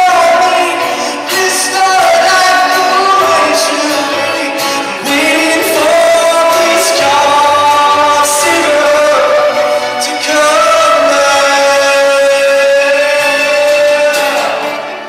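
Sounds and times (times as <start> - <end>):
instrumental accompaniment: 0.0 - 15.0
man singing: 0.0 - 15.0.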